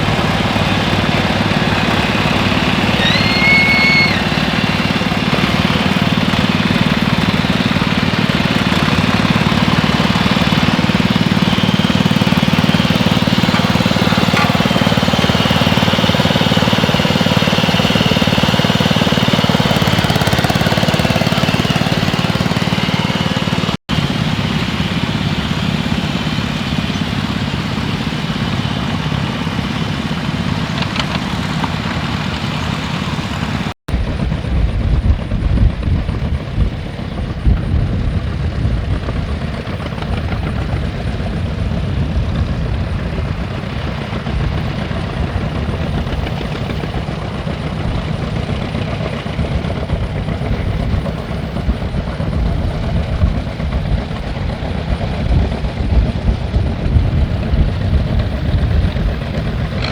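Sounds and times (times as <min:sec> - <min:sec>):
heavy engine running: 0:00.0 - 0:59.9.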